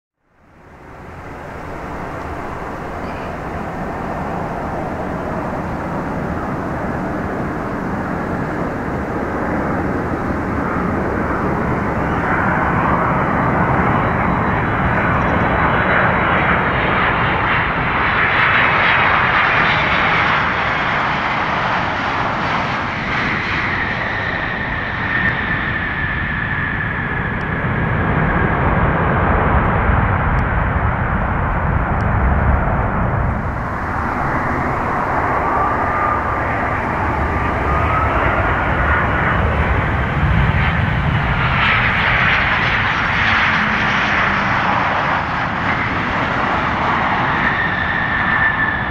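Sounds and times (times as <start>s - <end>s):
jet airliner engines whining: 0.3s - 48.9s.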